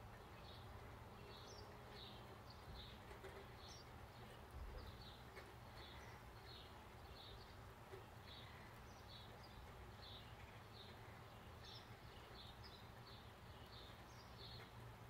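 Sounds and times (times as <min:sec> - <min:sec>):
bird chirping: 0:00.0 - 0:14.9
low steady background hum: 0:00.0 - 0:15.0.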